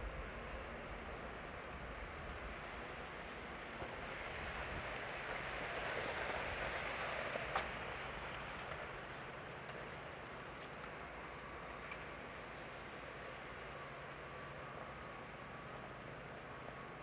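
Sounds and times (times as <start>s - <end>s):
city street noise: 0.0s - 17.0s
tyres hissing on wet street: 0.2s - 17.0s.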